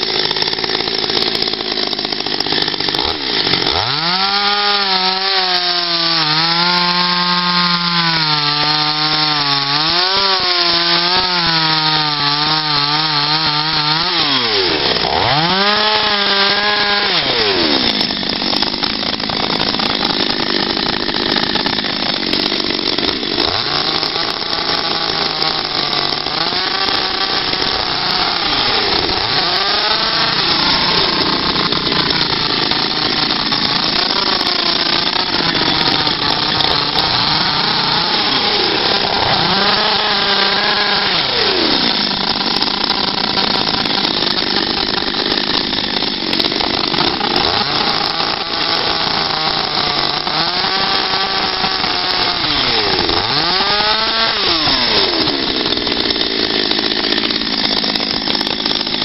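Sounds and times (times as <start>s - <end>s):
chainsaw carving wood: 0.0s - 59.0s.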